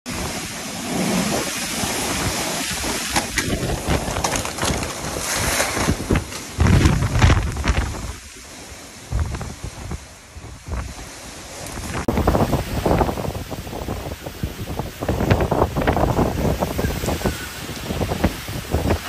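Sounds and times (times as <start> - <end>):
heavy rain: 0.1 - 19.0
wind buffeting microphone: 0.1 - 19.0
wind gusting: 0.1 - 19.0.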